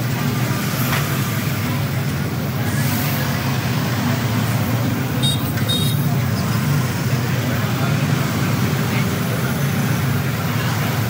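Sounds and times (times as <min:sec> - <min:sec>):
road traffic: 0:00.0 - 0:11.0
truck engine rumble: 0:00.0 - 0:11.0.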